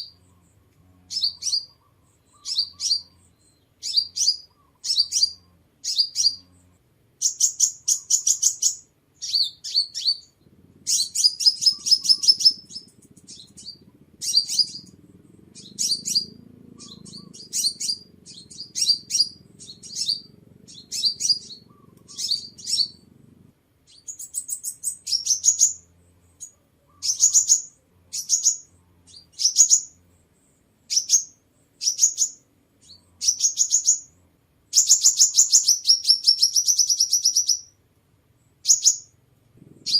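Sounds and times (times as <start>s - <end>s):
sunbird chirps and trills: 0.0s - 37.8s, 38.4s - 39.2s.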